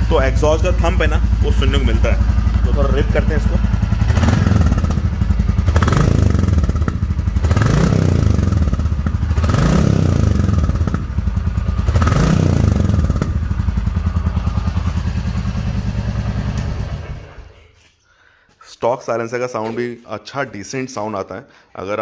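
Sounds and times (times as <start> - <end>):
motorcycle engine idling and revving: 0.0 - 17.8.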